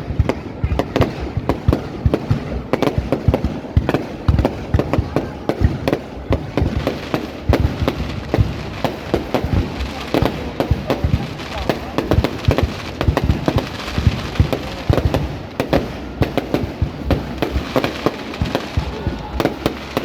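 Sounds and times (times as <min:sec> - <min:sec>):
fireworks bangs and crackles: 0:00.0 - 0:20.0
rumble of distant fireworks bursts: 0:00.0 - 0:20.0.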